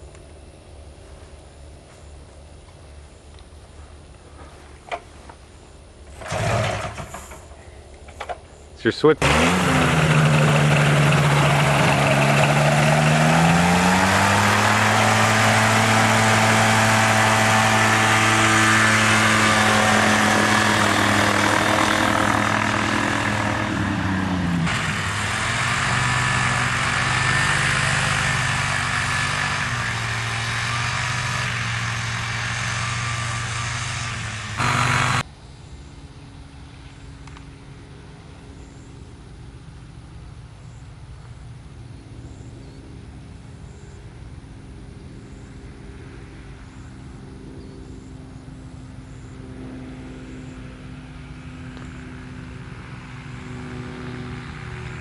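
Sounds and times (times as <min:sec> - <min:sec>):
ultralight engine and propeller: 0:00.0 - 0:55.0.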